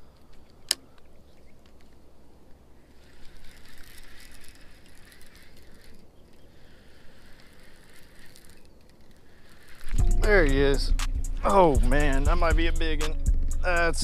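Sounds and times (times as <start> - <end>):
fishing reel whirring and ticking: 2.8 - 14.0.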